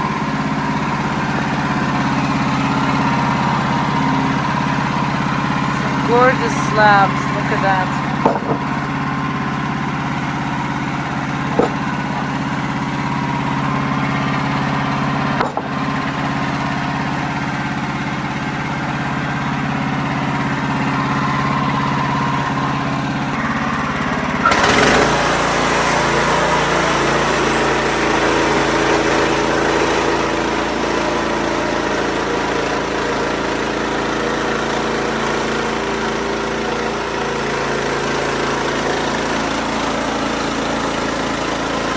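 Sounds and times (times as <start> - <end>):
sawmill engine running: 0.0 - 41.9.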